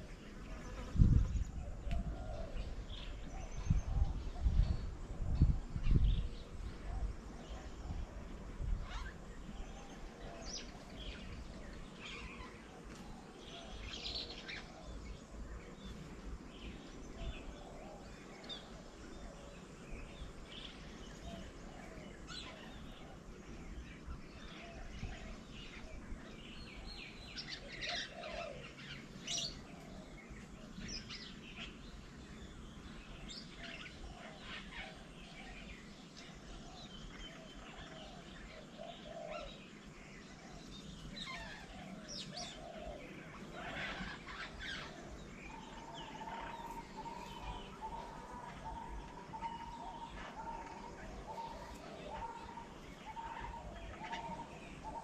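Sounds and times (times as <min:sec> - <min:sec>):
birds chirping and calling: 0:00.0 - 0:55.0
outdoor background noise: 0:00.0 - 0:55.0.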